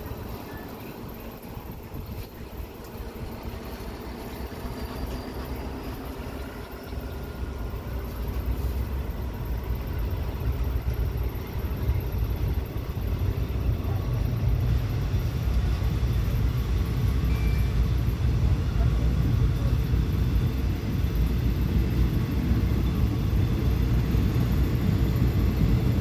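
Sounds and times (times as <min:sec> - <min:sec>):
diesel train engine rumble: 0:00.0 - 0:26.0.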